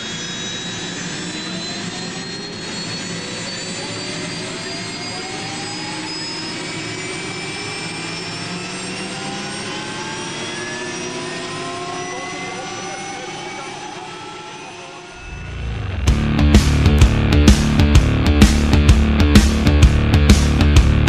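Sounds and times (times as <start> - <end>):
aircraft turbine engine whining: 0.0 - 19.8.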